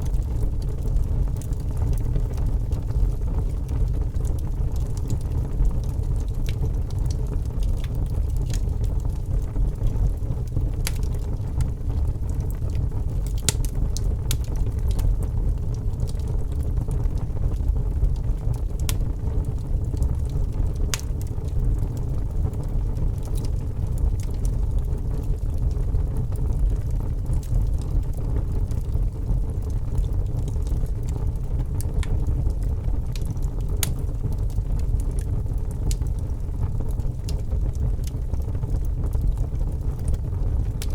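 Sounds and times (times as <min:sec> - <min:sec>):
logs crackling and popping: 0:00.0 - 0:40.9
low rumble of flames: 0:00.0 - 0:40.9.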